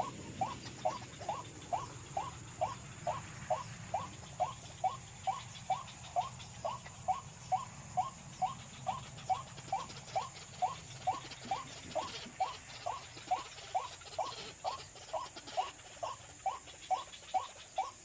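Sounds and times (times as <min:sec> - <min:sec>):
bird calling: 0:00.0 - 0:18.0.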